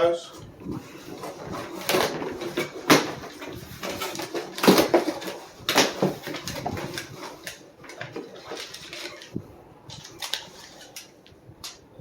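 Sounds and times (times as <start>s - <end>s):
packaging rustling and crackling: 0.4s - 11.8s.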